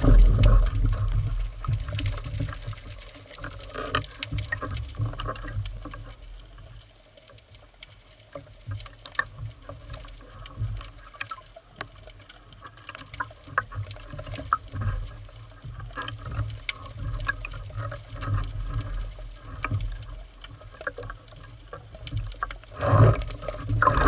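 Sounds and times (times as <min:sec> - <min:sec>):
low rumble of water moving: 0:00.0 - 0:24.0
sharp clicks and crackles underwater: 0:00.0 - 0:24.0.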